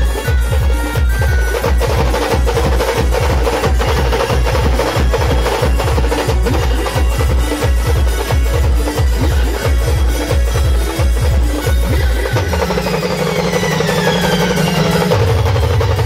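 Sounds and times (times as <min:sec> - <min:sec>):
large drums beaten hard: 0:00.0 - 0:16.0
melody line: 0:00.0 - 0:16.0.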